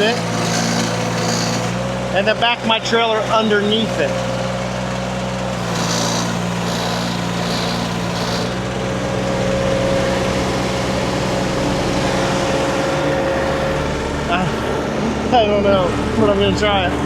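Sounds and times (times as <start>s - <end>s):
hydraulic whine: 0.0s - 17.0s
skid steer engine running: 0.0s - 17.0s.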